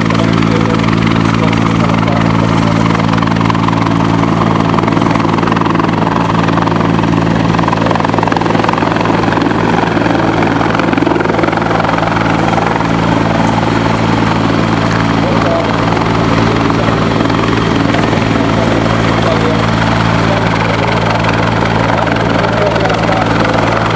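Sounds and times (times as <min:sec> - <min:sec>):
constant low hum: 0:00.0 - 0:23.9
helicopter rotor hovering: 0:00.0 - 0:23.9.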